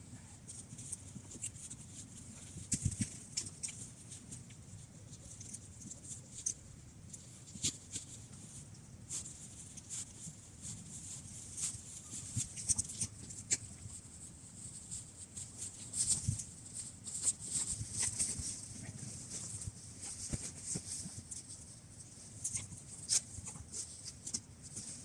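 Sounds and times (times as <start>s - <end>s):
crackles in dry needles: 0.1s - 25.0s.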